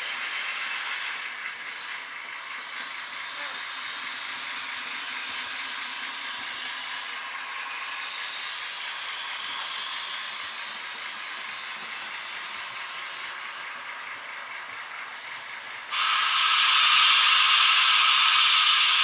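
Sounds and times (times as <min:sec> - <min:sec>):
model trains running hiss: 0:00.0 - 0:19.0.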